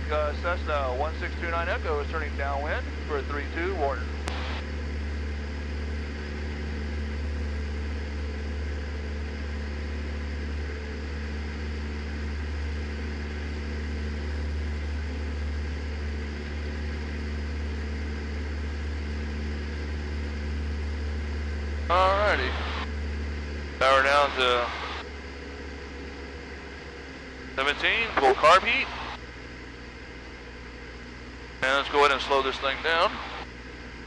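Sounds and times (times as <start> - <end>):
propeller plane engine drone: 0.0 - 34.0.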